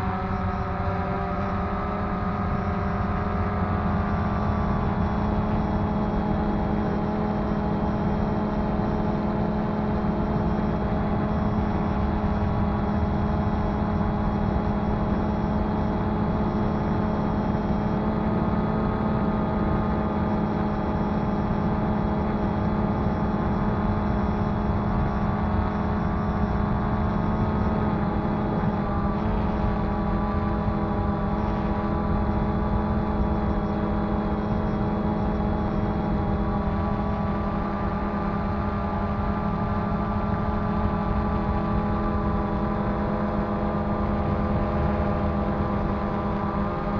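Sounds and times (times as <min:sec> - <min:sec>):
drone motors humming: 0:00.0 - 0:46.9.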